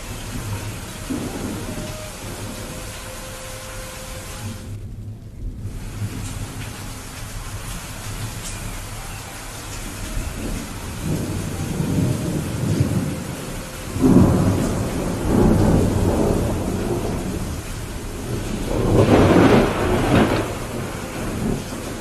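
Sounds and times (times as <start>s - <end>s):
rolling thunder: 0.0s - 22.0s
steady rain: 0.0s - 22.0s.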